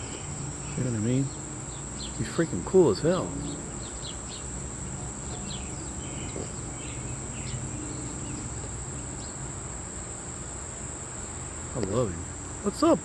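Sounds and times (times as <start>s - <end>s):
short insect chirps: 0.0s - 12.9s
crickets droning: 0.0s - 13.0s
low hum: 0.0s - 13.0s.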